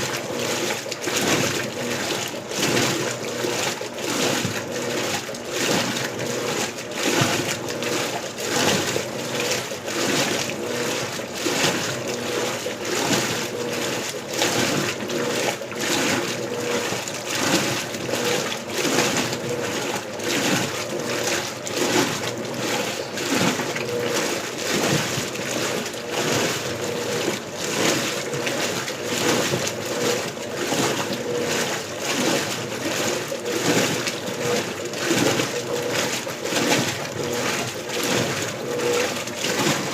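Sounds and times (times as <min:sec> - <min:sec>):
washing machine motor hum: 0:00.0 - 0:39.9
water and clothes sloshing: 0:00.0 - 0:39.9.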